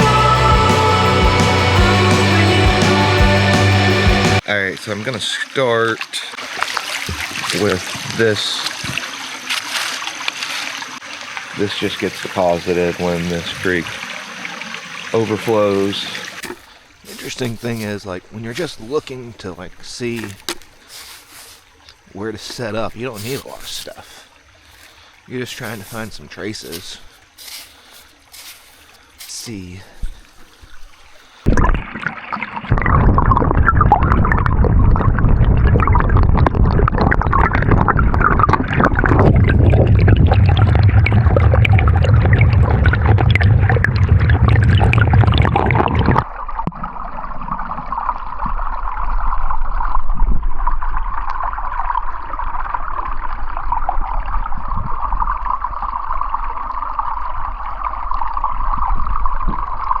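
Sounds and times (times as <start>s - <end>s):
creek water splashing: 0.0s - 48.7s
creek water flowing: 0.0s - 50.0s.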